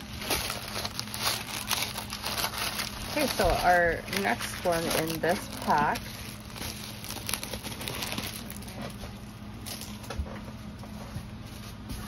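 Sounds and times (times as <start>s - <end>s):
plastic wrapping rustling: 0.0s - 12.0s.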